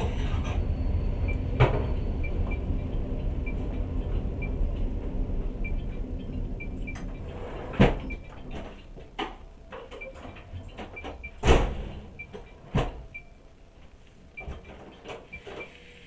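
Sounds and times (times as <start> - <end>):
train rumbling to a stop: 0.0 - 13.4, 14.4 - 16.0.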